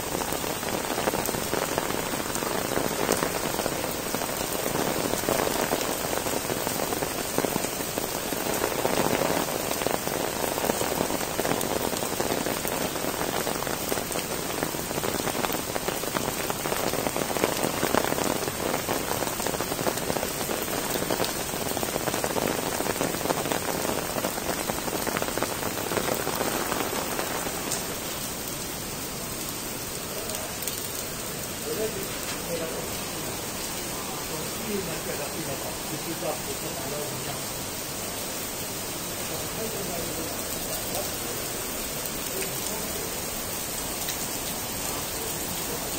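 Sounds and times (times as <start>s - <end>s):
rain falling on stone paving: 0.0s - 45.9s.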